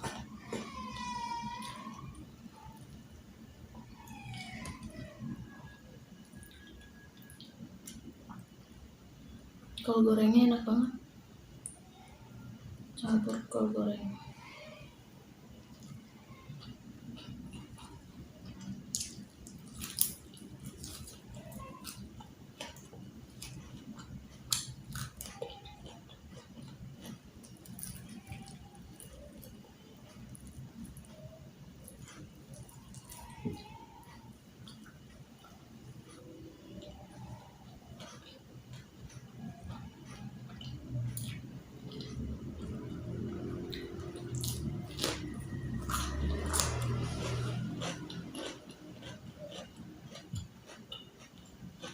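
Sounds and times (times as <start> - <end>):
chewing and crunching food: 0.0 - 8.8, 13.0 - 51.9.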